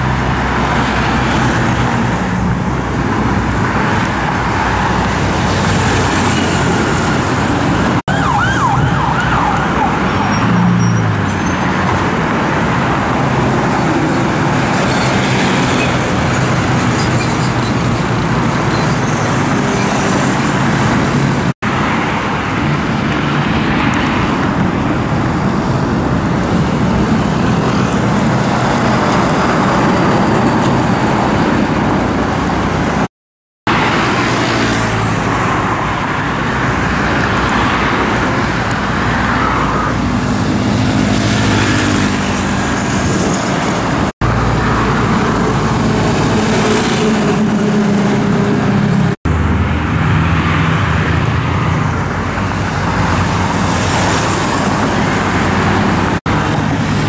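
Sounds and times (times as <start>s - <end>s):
scooters and cars passing: 0.0s - 33.1s, 33.7s - 57.0s.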